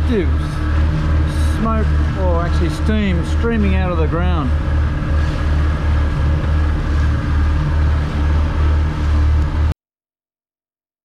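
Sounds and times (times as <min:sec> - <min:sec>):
boat motor rumbling: 0:00.0 - 0:09.8.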